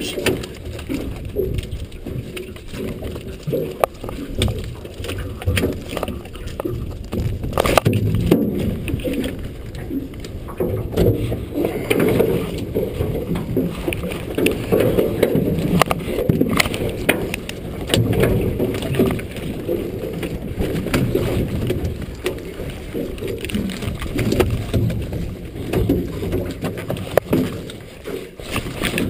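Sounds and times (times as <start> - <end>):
muffled knocks and clatter of net: 0.0 - 29.0.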